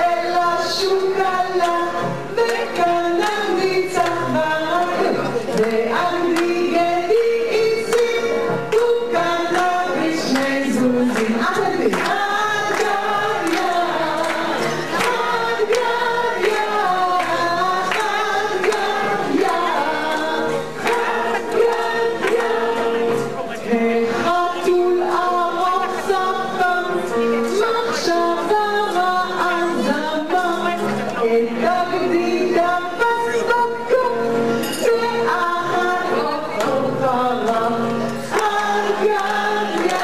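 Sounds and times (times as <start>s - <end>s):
many voices singing together: 0.0s - 40.0s.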